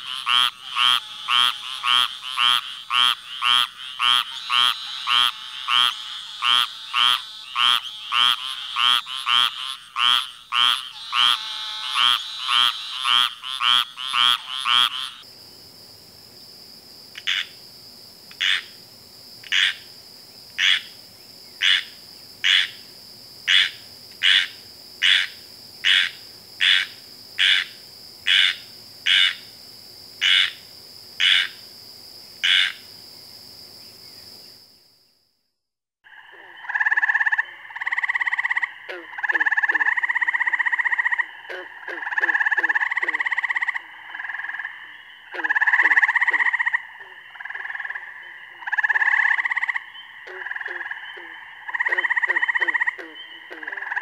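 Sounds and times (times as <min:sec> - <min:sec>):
treefrog calling: 0:00.0 - 0:15.3, 0:17.2 - 0:17.6, 0:18.3 - 0:18.8, 0:19.4 - 0:29.6, 0:30.2 - 0:31.7, 0:32.4 - 0:33.0, 0:36.0 - 0:54.0.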